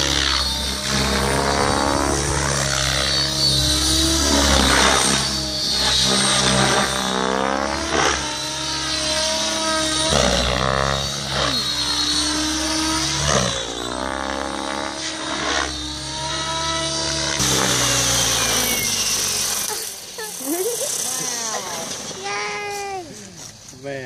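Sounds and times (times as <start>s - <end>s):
helicopter rotor and motor whine: 0.0s - 24.0s.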